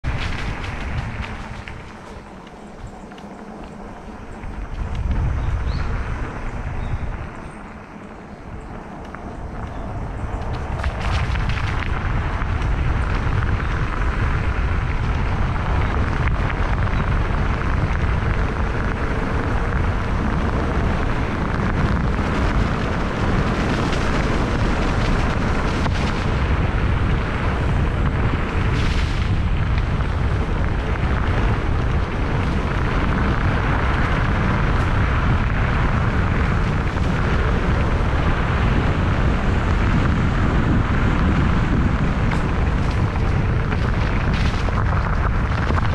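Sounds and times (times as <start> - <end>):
wind noise on microphone: 0.0 - 45.9.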